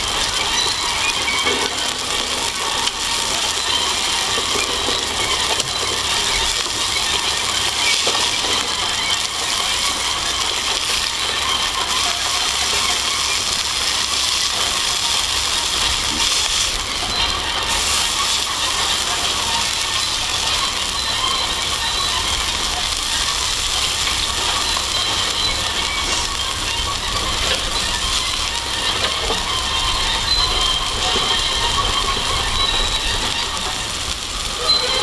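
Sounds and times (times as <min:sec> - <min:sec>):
patties sizzling over campfire: 0:00.0 - 0:35.0.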